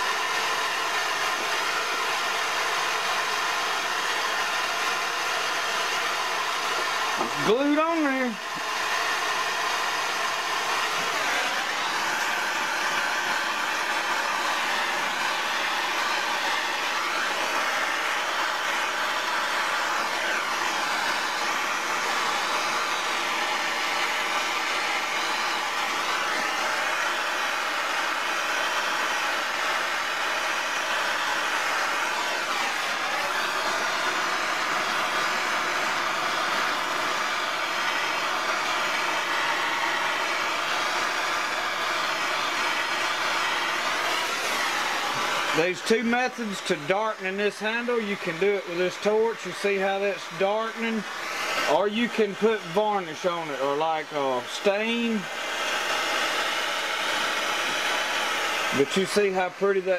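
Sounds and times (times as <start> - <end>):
propane torch hissing: 0.0 - 55.2, 55.8 - 59.9.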